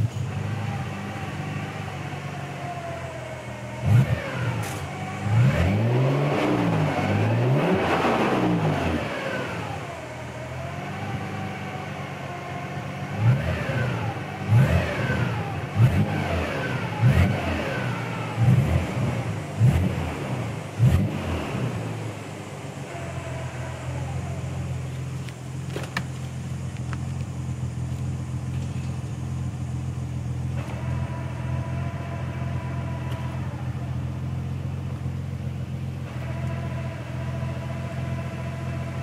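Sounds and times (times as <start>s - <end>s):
car engine: 0.0s - 39.0s.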